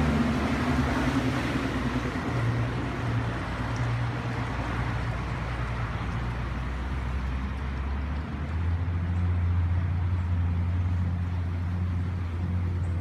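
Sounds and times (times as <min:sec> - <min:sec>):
water and wind noise: 0:00.0 - 0:13.0.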